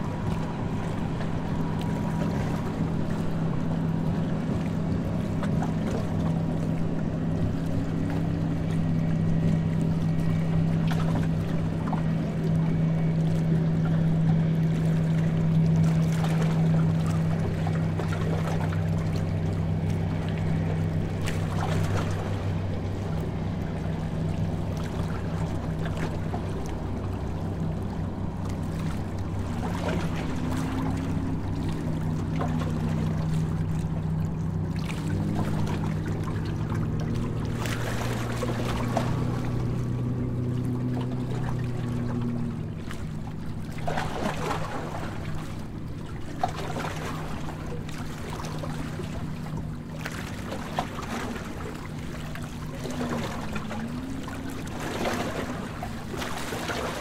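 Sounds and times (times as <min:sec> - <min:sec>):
boat engine humming: 0:00.0 - 0:57.0
water splashing along hull: 0:00.0 - 0:57.0.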